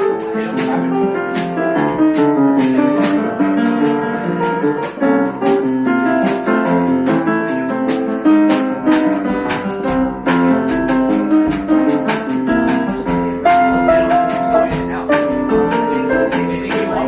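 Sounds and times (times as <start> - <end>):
jazz band playing: 0.0 - 17.0
percussive hits: 0.0 - 17.0.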